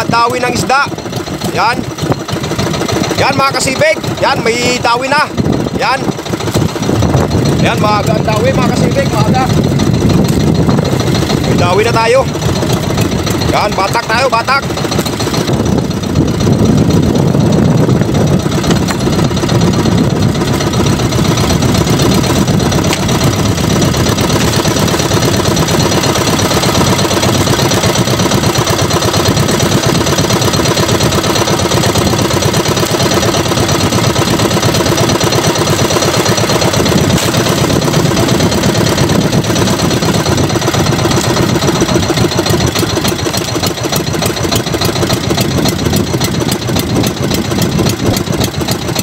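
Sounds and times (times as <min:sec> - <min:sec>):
boat engine idling: 0:00.0 - 0:49.0.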